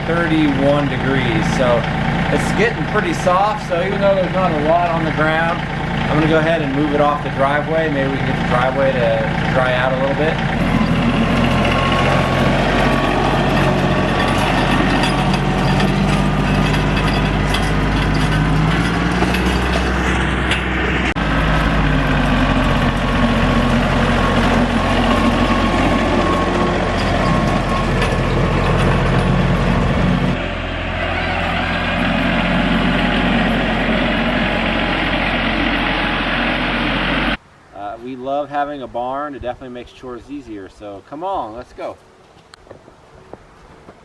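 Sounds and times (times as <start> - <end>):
tractor engine running: 0.0 - 37.4.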